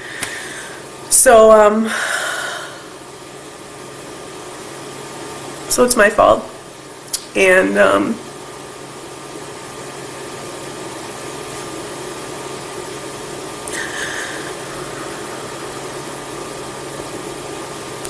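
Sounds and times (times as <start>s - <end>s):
low hum of air conditioner: 0.0s - 18.0s.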